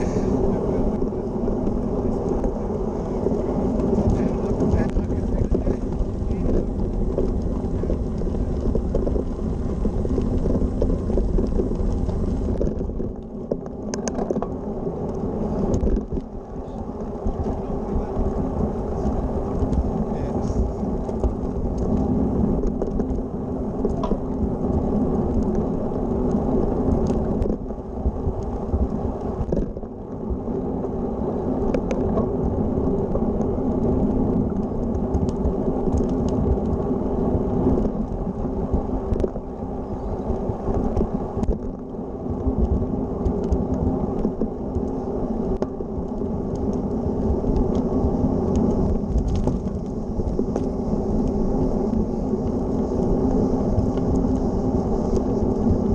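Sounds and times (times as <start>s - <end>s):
bike tyres rolling on gravel: 0.0s - 55.9s
wind rumble on microphone: 0.0s - 55.9s.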